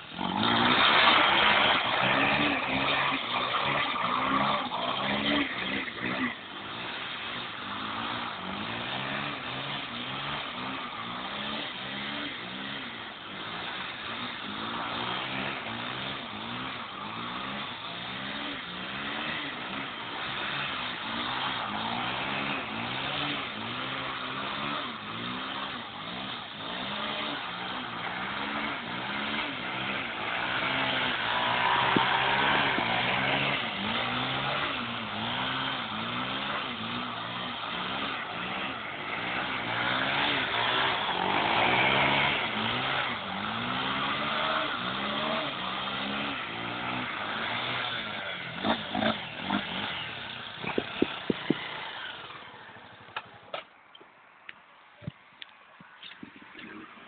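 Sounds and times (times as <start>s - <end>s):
motorcycle engine revving: 0.0s - 53.6s.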